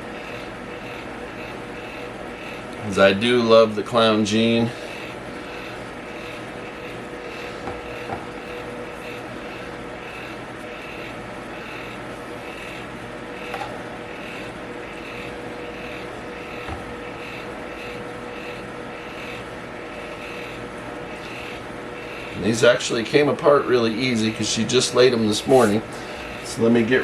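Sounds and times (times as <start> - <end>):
electric fan whirring: 0.0 - 27.0.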